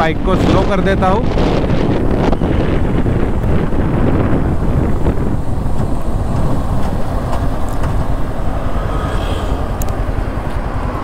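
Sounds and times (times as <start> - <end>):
road noise: 0.0 - 11.0
motorcycle engine running: 1.4 - 11.0.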